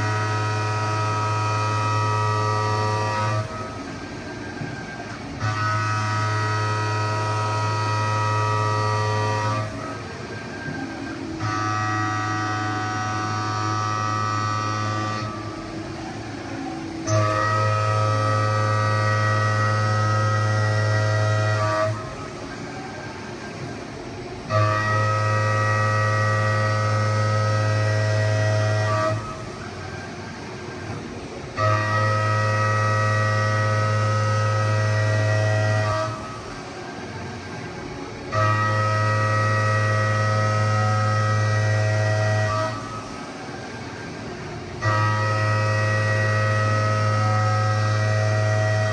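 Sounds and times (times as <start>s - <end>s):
low machine hum: 0.0s - 48.9s
mill cutter whining in steel: 0.0s - 48.9s.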